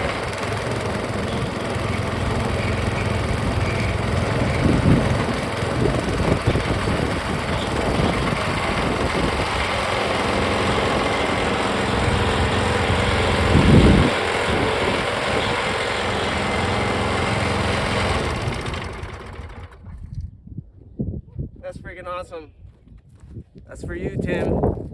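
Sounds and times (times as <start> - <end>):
gasoline engine running: 0.0 - 20.0.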